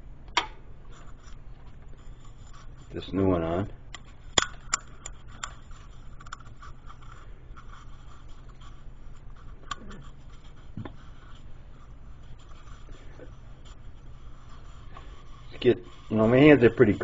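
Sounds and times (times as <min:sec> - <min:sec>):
steady low hum: 0:00.0 - 0:17.0
hands rubbing and scratching plastic: 0:00.9 - 0:17.0.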